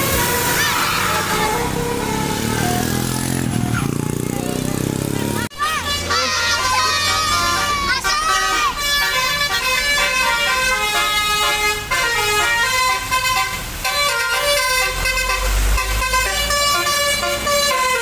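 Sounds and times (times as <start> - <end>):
bus melody horn playing a tune: 0.0 - 3.5, 5.5 - 18.0.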